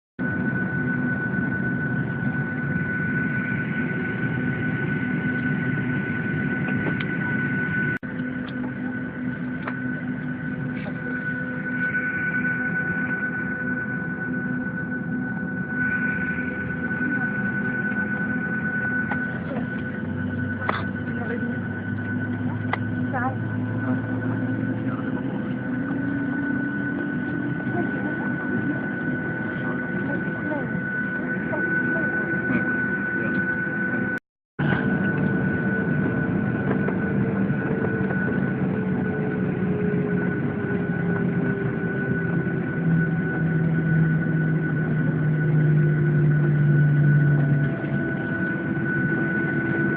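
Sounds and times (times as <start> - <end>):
airliner cabin drone: 0.2 - 49.9
constant high whine: 0.2 - 49.9
murmur of passenger voices: 0.2 - 49.9.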